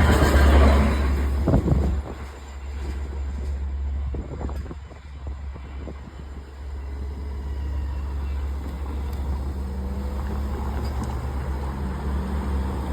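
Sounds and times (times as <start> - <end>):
vehicle engine low rumble: 0.0 - 12.9.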